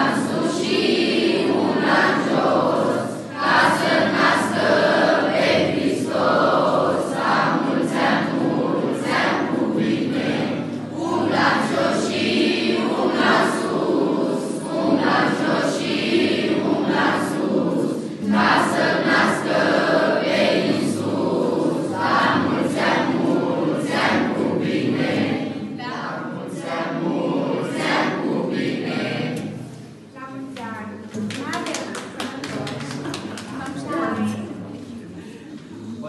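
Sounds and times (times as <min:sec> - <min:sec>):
children's choir singing: 0:00.0 - 0:30.0.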